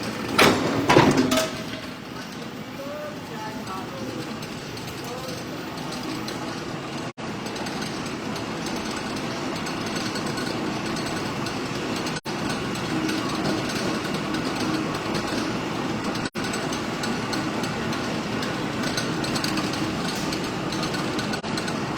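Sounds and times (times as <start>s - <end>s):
machinery running: 0.0s - 21.9s.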